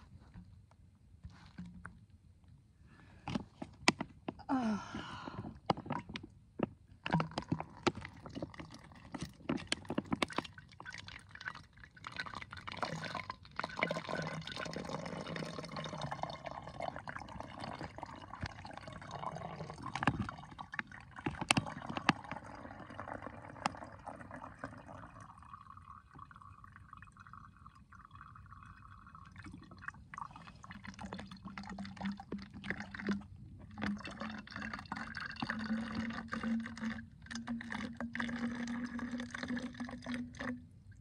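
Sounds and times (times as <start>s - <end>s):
water trickling into plastic bottle: 5.3s - 41.0s.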